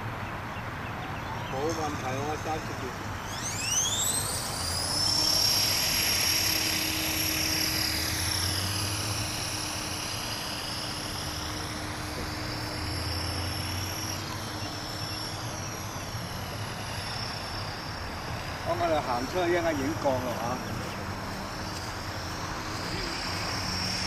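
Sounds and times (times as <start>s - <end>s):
model plane motor whine: 1.1s - 24.0s.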